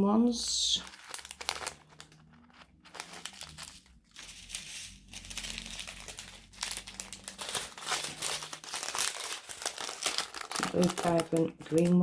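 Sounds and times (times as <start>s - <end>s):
plastic bags crinkling: 0.4s - 12.0s.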